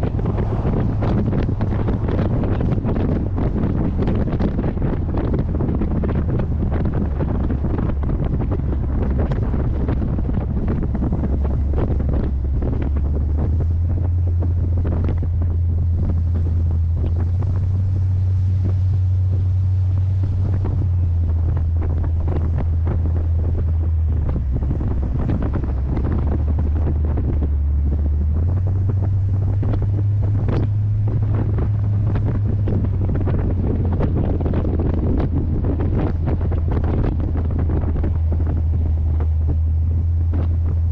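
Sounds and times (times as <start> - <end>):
car engine drone: 0.0 - 40.9
wind buffeting microphone: 0.0 - 40.9.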